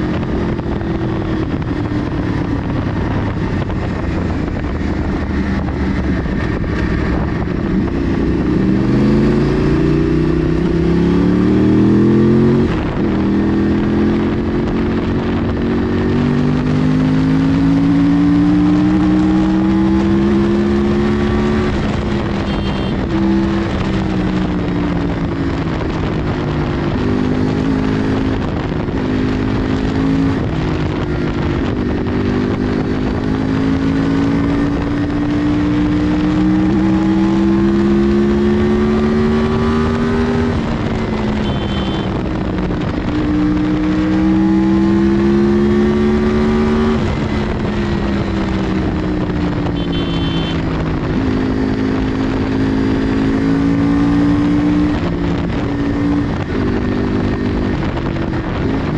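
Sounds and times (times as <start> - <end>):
wind rushing past microphone: 0.0 - 49.9, 50.5 - 58.9
motorcycle engine accelerating: 0.0 - 58.9.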